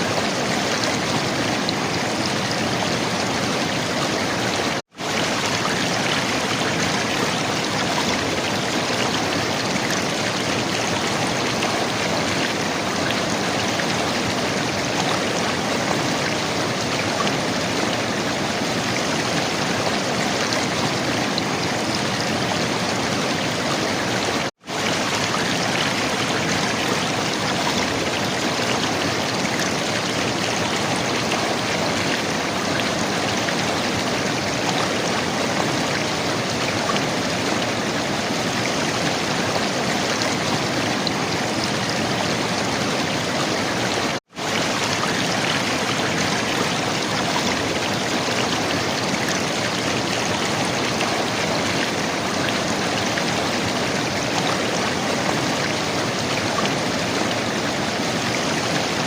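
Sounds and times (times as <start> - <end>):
river water flowing and gurgling: 0.0 - 59.0.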